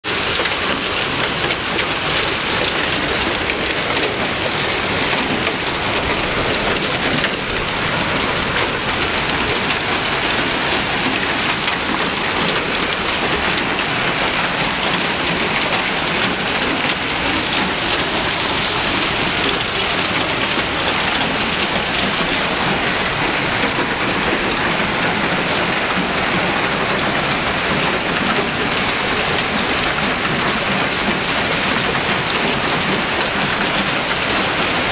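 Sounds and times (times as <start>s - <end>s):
hail and rain pelting street: 0.0s - 34.9s
hail striking car bodies: 0.0s - 34.9s.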